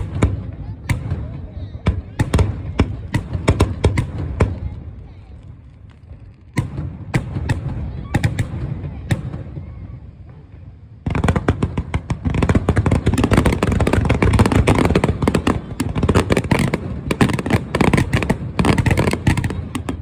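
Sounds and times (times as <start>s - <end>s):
fireworks bursts and crackling bangs: 0.0s - 20.0s.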